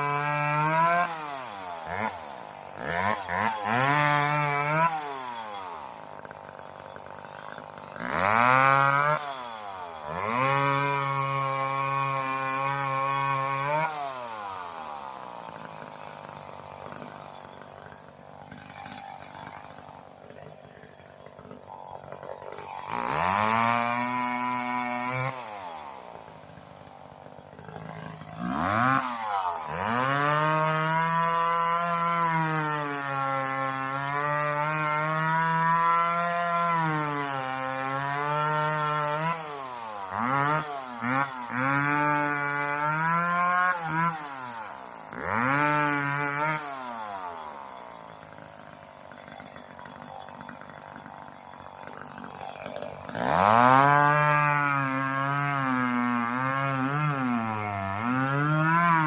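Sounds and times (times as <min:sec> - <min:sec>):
chainsaw revving and cutting: 0:00.0 - 0:59.0.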